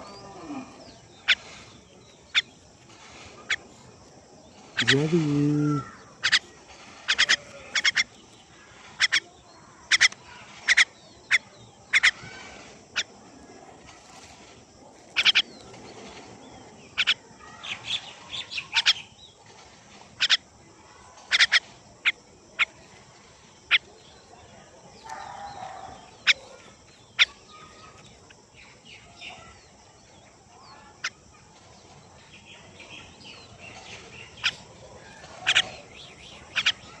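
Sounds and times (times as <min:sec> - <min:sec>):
small bird chirping: 0:00.0 - 0:13.3, 0:13.9 - 0:19.4, 0:20.2 - 0:20.5, 0:21.2 - 0:37.0.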